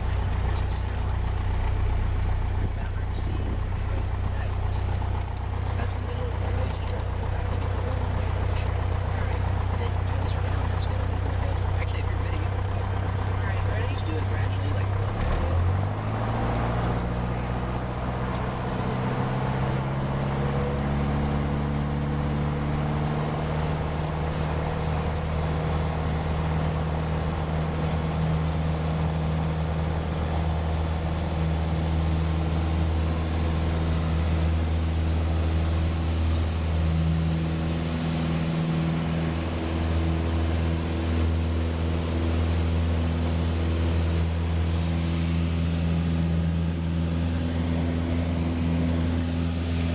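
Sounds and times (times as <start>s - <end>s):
light aircraft piston engine: 0.0s - 49.9s.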